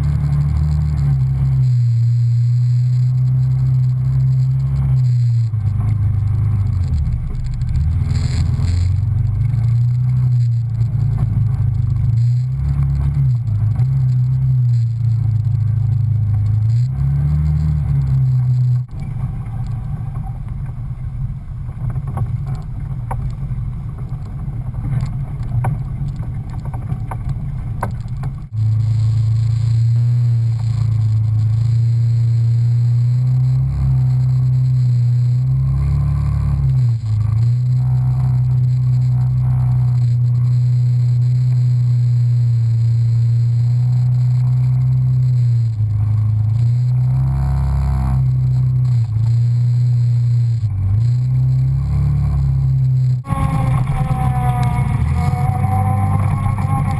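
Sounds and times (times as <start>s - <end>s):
off-road vehicle engine under load: 0.0s - 56.9s.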